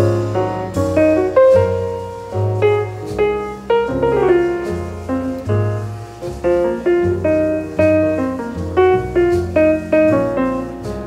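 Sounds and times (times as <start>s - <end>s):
jazz piano playing: 0.0s - 11.0s.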